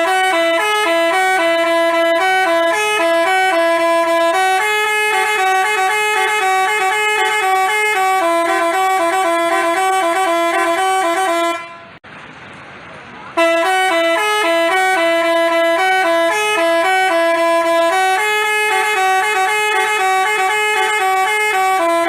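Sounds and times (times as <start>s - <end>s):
bus horn playing melody: 0.0s - 12.0s, 13.4s - 22.0s.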